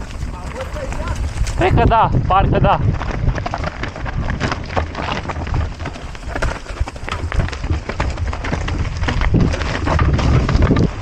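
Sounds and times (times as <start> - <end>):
bike rattling: 0.0 - 11.0
tyres crunching on dirt and stones: 0.0 - 11.0.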